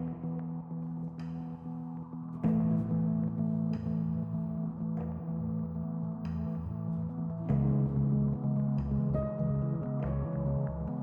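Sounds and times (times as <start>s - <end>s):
ambient background music: 0.0s - 11.0s.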